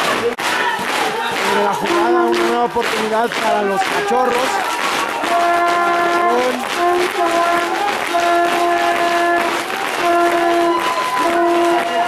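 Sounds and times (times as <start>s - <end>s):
spectators cheering and clapping: 0.0s - 12.0s
horn blowing long notes: 1.4s - 2.8s, 3.6s - 12.0s.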